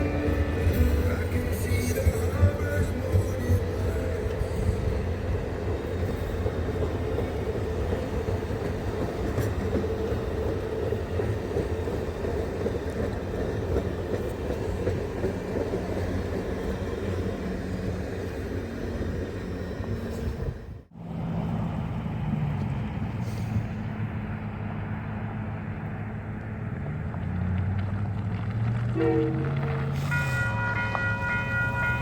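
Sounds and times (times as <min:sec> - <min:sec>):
train rumbling past on rails: 0:00.0 - 0:32.0.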